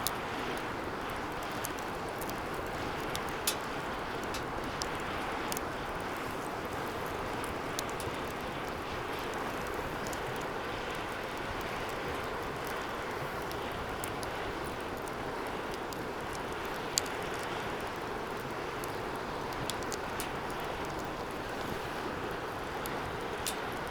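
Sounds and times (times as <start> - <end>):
fire crackling: 0.0 - 23.9
rush of flame: 0.0 - 23.9.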